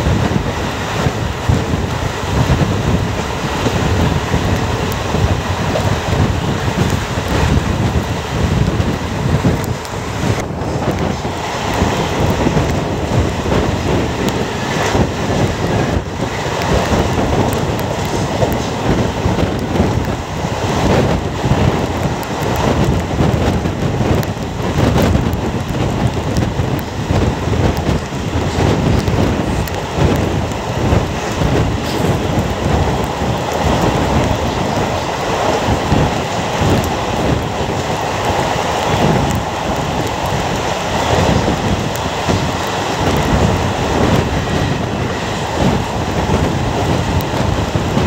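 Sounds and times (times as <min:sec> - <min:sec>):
train coaches rumbling on rails: 0:00.0 - 0:48.0
wind buffeting microphone: 0:00.0 - 0:48.0.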